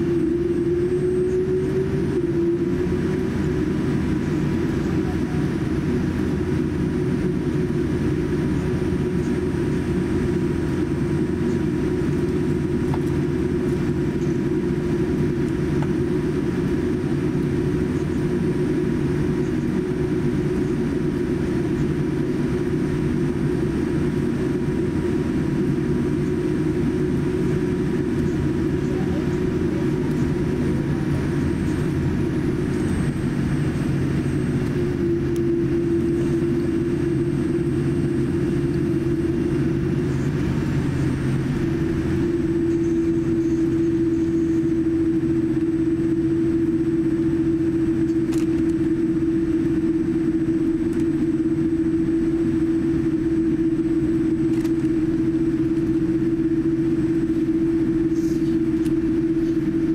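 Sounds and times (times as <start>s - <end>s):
airliner cabin rumble: 0.0s - 59.9s
steady hum tone: 0.0s - 59.9s.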